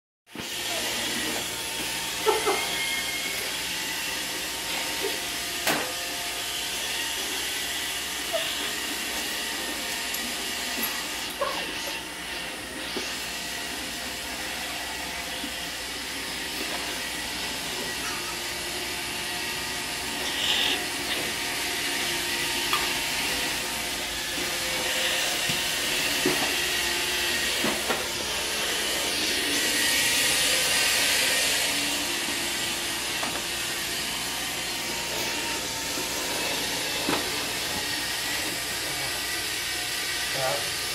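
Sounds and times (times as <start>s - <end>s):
robot vacuum whirring: 0.3s - 40.9s.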